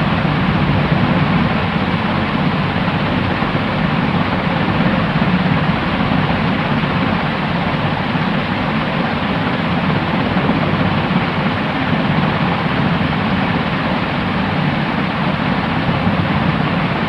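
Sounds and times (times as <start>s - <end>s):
white noise rush: 0.0s - 17.0s.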